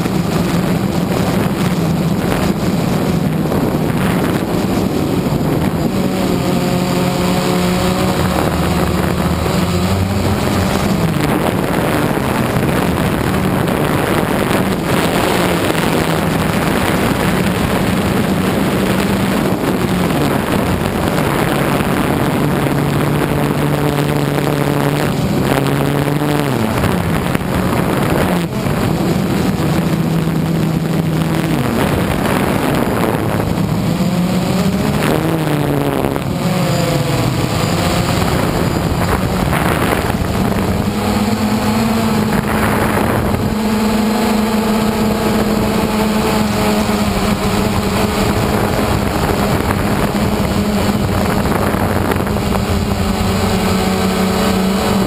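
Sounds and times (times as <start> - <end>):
drone propellers whirring: 0.0 - 55.0.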